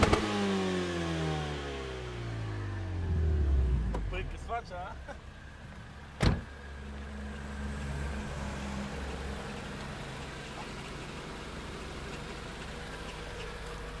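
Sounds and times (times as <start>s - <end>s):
car engine idling: 1.5s - 14.0s.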